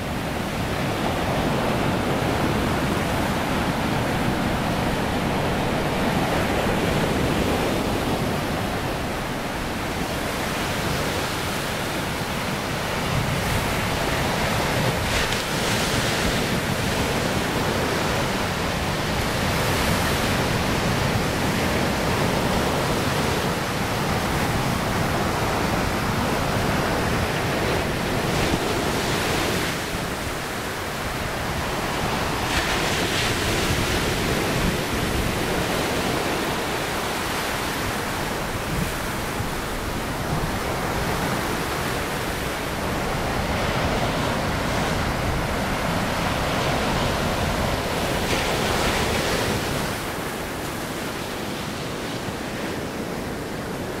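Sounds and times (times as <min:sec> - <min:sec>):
surf washing over rocks and sand: 0:00.0 - 0:54.0.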